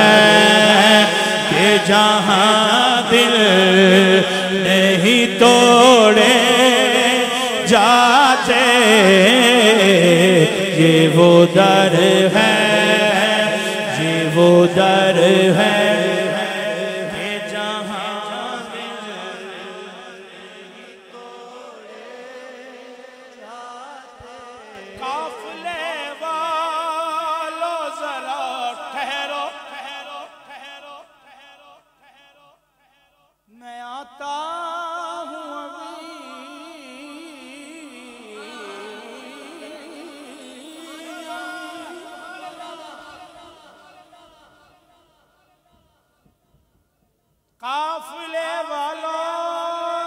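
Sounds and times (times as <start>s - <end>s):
men chanting devotional song: 0.0s - 46.5s, 47.6s - 50.0s.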